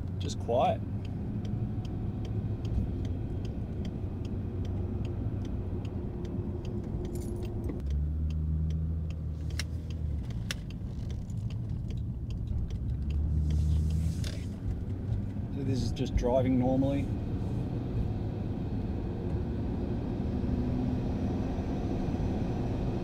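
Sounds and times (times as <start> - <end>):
car engine low hum: 0.0 - 23.0
road noise: 0.0 - 23.0.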